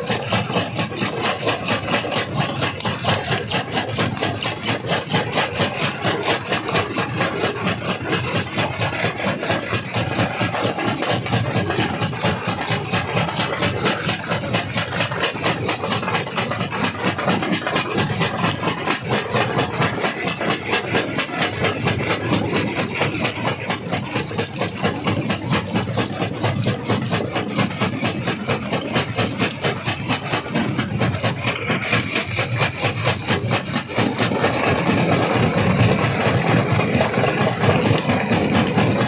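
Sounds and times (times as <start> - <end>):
stone crusher grinding rock: 0.0 - 39.0.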